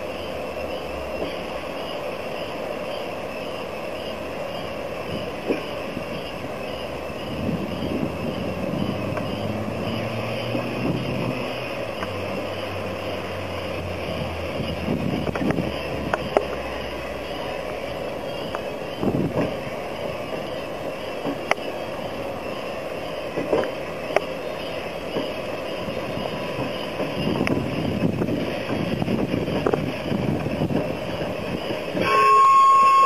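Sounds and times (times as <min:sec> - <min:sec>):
diesel locomotive humming: 0:00.0 - 0:33.0.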